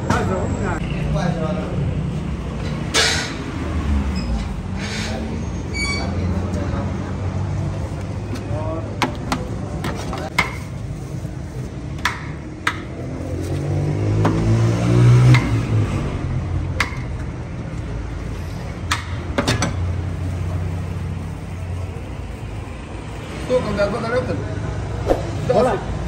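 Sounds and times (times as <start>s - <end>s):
vehicle engine: 0.0s - 26.0s.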